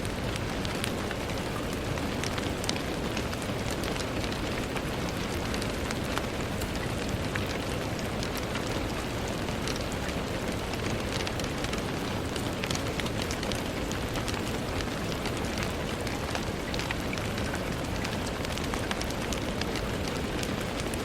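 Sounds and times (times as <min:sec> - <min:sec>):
rain against a window: 0:00.0 - 0:21.0.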